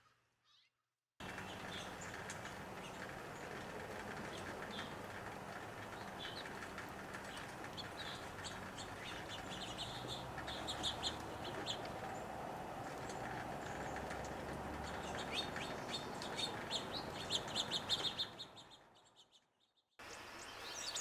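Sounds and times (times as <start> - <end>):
birds chirping: 1.2 - 19.4.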